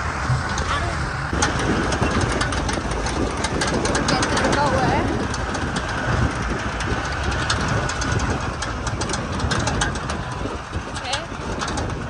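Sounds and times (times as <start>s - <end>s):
vehicle body rattling and knocking: 0.0s - 12.0s
vehicle engine running: 0.0s - 12.0s.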